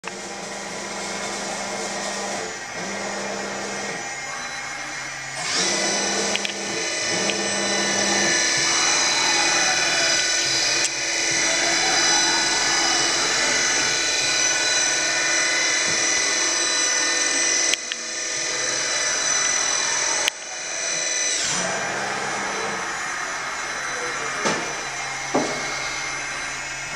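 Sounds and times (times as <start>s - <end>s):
milling machine spindle whine: 0.0s - 26.9s.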